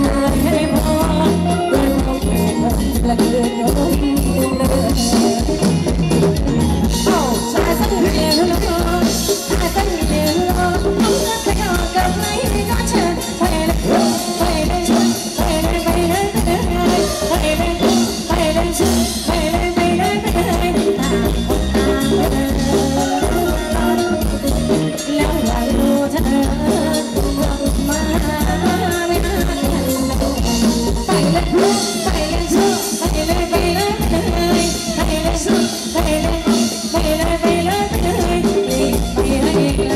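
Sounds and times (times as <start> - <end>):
live band playing dance music: 0.0 - 39.9
person singing: 0.0 - 39.9.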